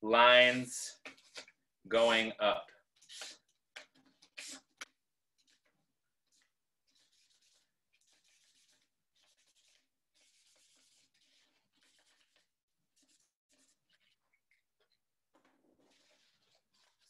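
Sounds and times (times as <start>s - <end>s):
marker scratching on paper: 0.2s - 2.2s, 2.9s - 17.0s.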